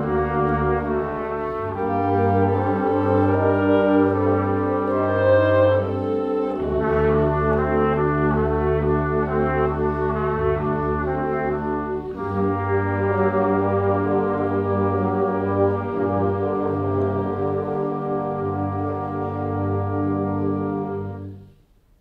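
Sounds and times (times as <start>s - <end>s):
brass ensemble chords: 0.0s - 21.8s.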